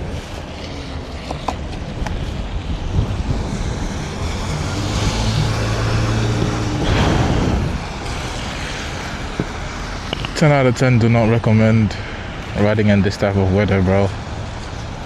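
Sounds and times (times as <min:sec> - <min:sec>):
motor vehicle drone: 0:00.0 - 0:12.8
tyre noise on wet street: 0:00.0 - 0:15.0
wind rushing over microphone: 0:00.0 - 0:15.0.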